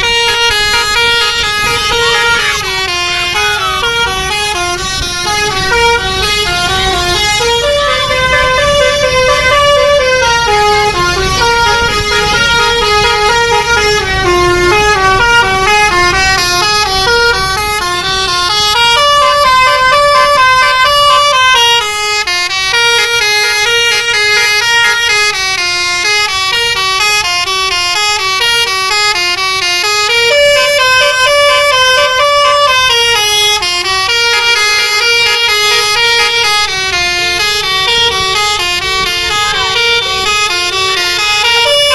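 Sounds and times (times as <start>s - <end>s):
low engine rumble: 0.0s - 28.4s, 29.3s - 41.9s
bus horn playing melody: 0.0s - 41.9s.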